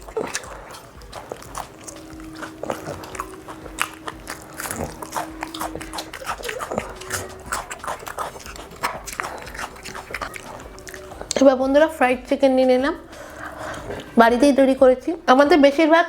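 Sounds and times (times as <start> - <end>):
crisp crunching of food: 0.0 - 14.2
wet chewing and lip smacks: 0.0 - 15.8
faint steady hum tone: 0.0 - 16.0.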